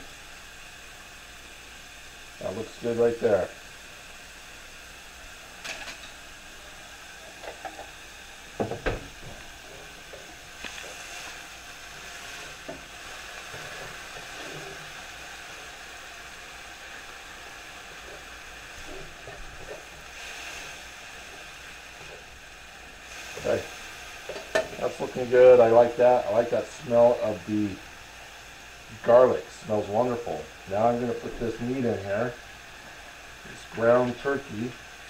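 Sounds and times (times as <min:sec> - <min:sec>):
garlic and onions sizzling: 0:00.0 - 0:35.0.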